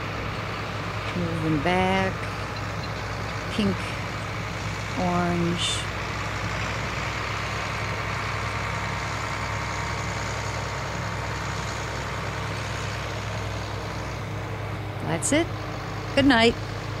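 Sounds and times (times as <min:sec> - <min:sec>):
combine harvester engine running: 0:00.0 - 0:17.0.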